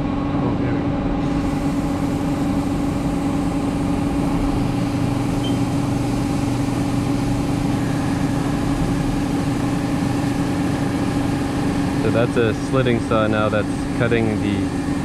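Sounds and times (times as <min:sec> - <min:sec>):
milling machine hum: 0:00.0 - 0:15.0.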